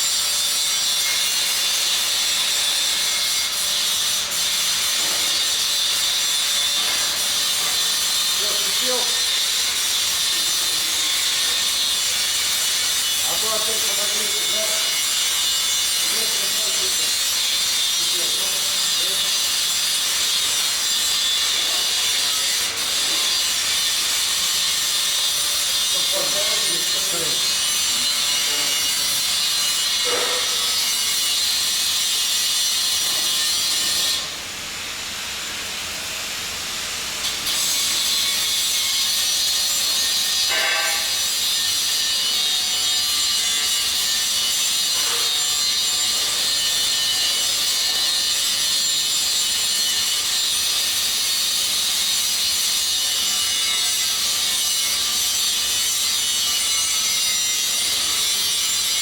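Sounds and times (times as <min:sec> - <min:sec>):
welding arc crackling and hissing: 0:00.0 - 0:59.0.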